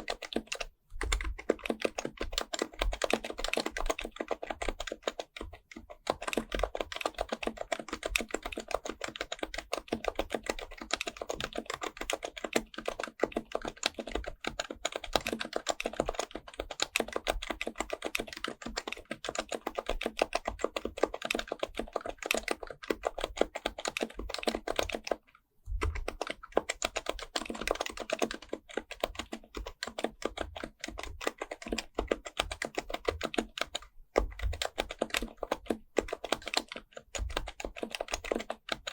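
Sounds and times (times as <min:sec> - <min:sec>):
soft keyboard typing: 0:00.0 - 0:38.9.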